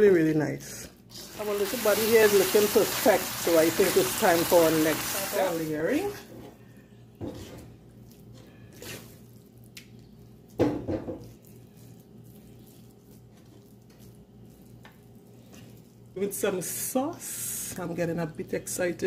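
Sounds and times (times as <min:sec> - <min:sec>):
squelching rice mixture: 0:01.0 - 0:06.3, 0:07.4 - 0:19.0.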